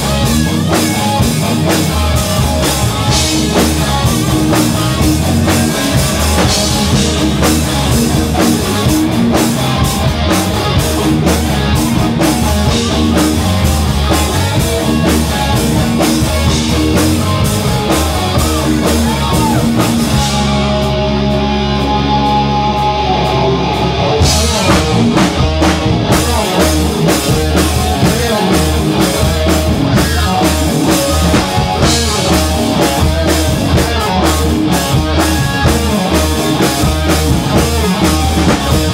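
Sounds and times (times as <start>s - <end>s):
electric guitars: 0.0s - 38.9s
pounding drum kit: 0.0s - 38.9s.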